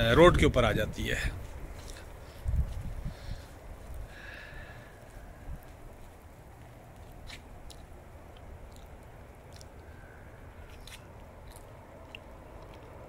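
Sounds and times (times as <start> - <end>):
wind rumbling on microphone: 0.0 - 11.4
faint crunchy crackles: 1.2 - 13.0.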